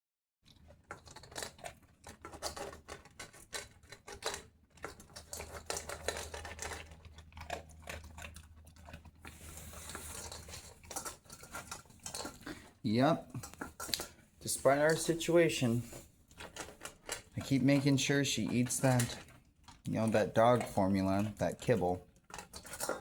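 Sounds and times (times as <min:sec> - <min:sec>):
dog crunching dry kibble: 0:00.5 - 0:23.0.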